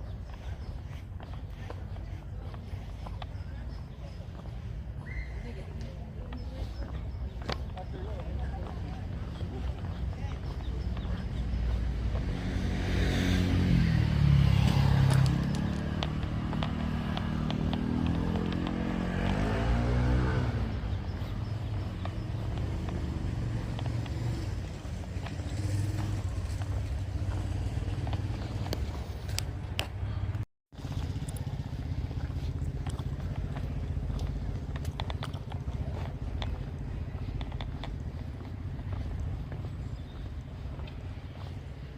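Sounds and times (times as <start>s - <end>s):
engine hum: 0.0s - 41.9s
motorcycles passing: 0.0s - 41.9s.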